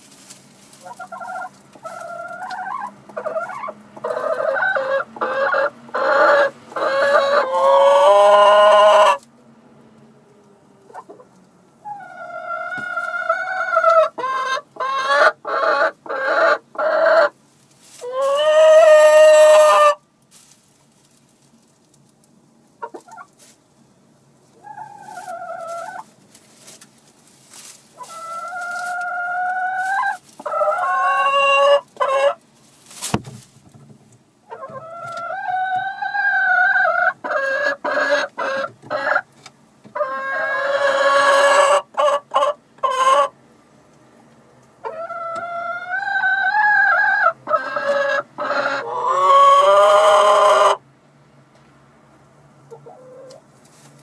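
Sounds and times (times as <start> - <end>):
hens clucking and squawking: 0.1 - 9.3, 10.4 - 20.0, 22.8 - 23.5, 24.4 - 32.4, 34.4 - 43.4, 44.8 - 50.8, 52.7 - 53.8.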